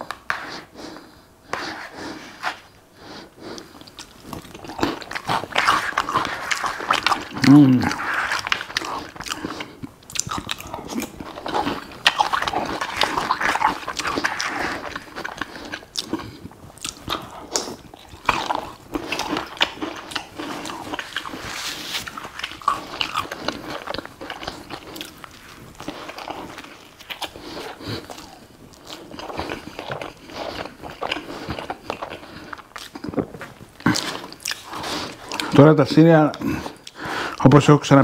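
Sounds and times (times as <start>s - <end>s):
chewing and crunching food: 0.0s - 38.0s
wet mouth sounds: 3.4s - 35.6s.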